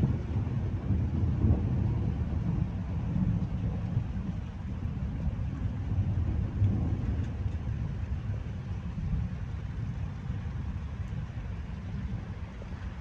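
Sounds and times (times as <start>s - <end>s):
thunder rumble: 0.0s - 13.0s.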